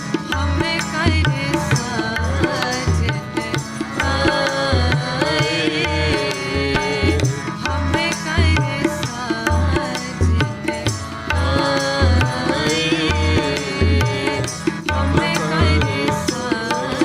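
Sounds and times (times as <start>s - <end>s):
tabla beat: 0.0s - 17.0s.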